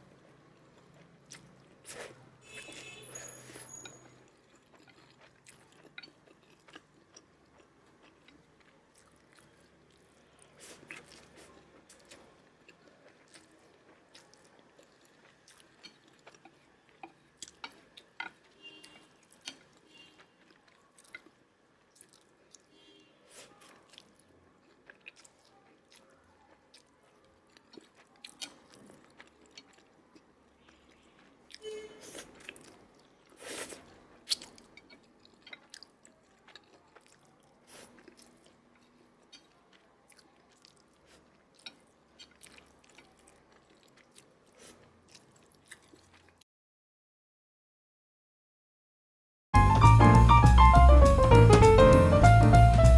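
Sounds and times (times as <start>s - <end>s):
person chewing noodles: 0.0s - 46.4s.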